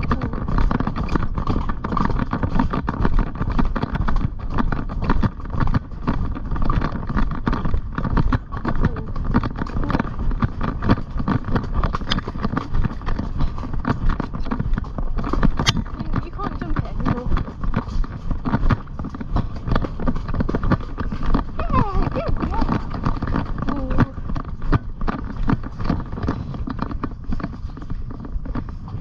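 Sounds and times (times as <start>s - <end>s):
pony hoofbeats: 0.0s - 29.0s
wind rumble on microphone: 0.0s - 29.0s.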